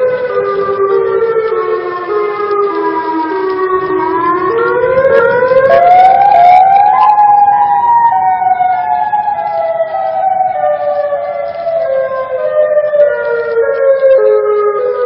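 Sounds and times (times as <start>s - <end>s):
wailing siren-like tones: 0.0s - 15.0s.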